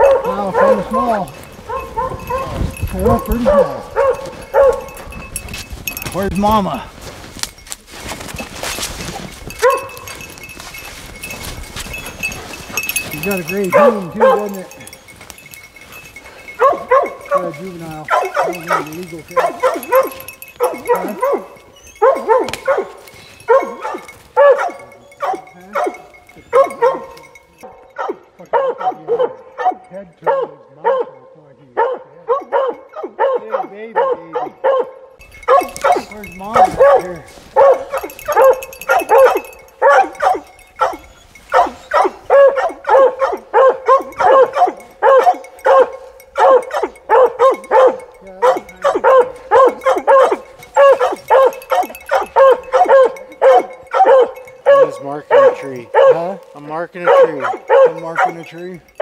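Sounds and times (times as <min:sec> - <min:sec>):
hounds barking: 0:00.0 - 0:07.2, 0:08.0 - 0:59.0.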